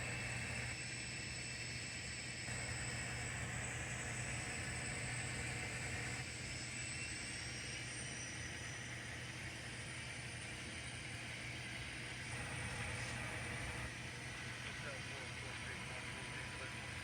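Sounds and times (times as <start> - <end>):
model train hum with hiss: 0.0 - 17.0.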